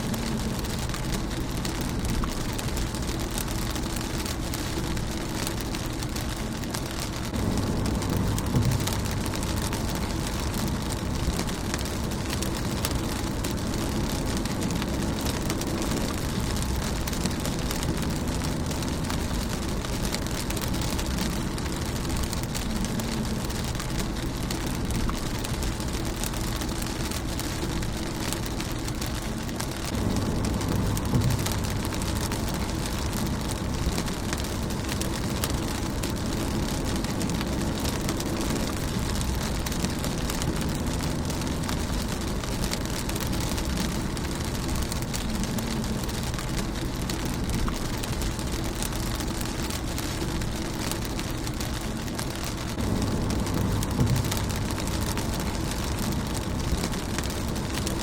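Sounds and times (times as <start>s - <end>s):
low rumble: 0.0s - 58.0s
rain on a car windshield: 0.0s - 58.0s.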